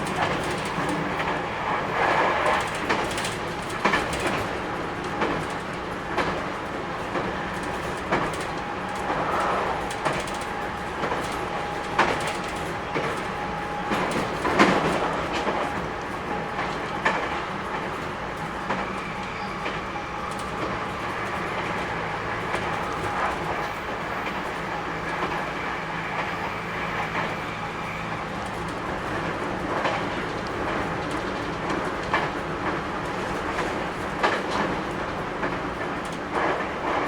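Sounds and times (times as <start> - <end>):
rail-joint clack: 0.0 - 37.0
train rolling noise: 0.0 - 37.0.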